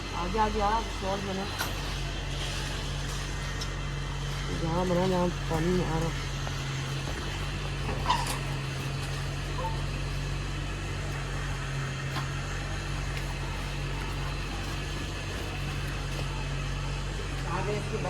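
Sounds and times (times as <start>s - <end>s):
electric motor hum: 0.0s - 18.0s.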